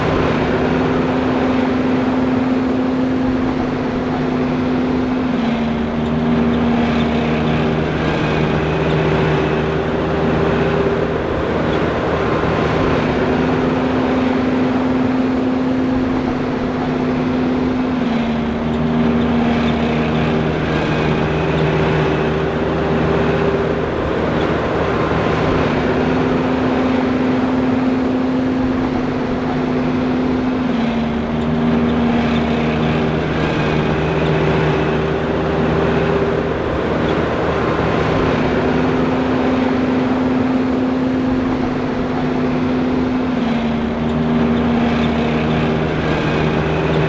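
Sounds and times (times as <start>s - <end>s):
forage harvester humming: 0.0s - 47.0s.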